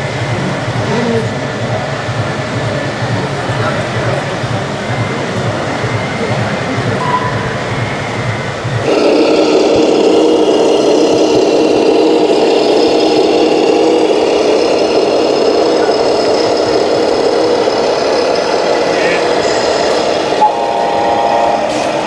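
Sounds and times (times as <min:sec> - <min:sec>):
model truck motor whining drone: 0:00.0 - 0:22.0.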